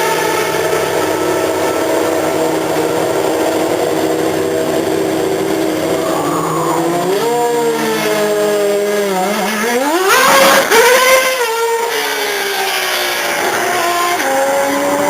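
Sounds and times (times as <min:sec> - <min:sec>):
racing car engine revving: 0:00.0 - 0:15.0.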